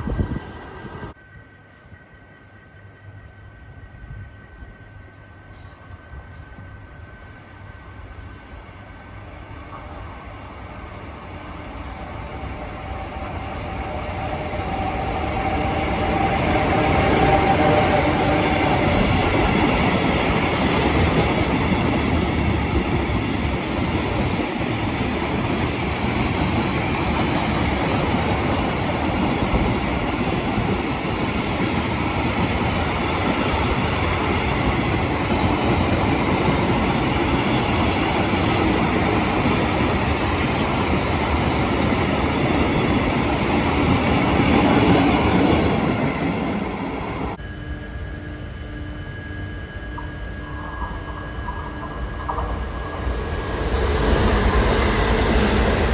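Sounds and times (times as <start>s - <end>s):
train wheels rumbling on rails: 0.0s - 1.8s, 9.1s - 47.4s, 50.0s - 55.9s
faint train whine: 0.0s - 55.9s.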